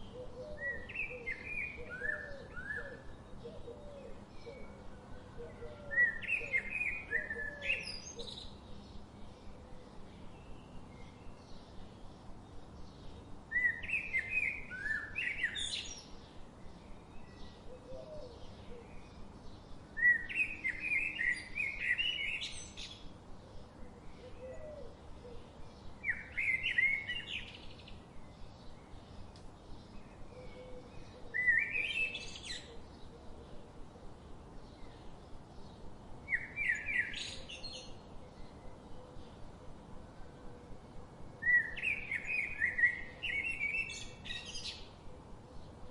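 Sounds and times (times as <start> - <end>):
bird singing: 0.0 - 40.8, 41.4 - 45.9
faint background hiss: 0.0 - 45.9.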